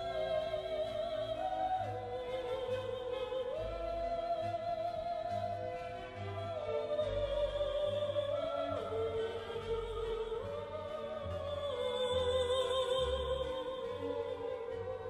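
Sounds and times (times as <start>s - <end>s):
low orchestral accompaniment: 0.0s - 15.0s.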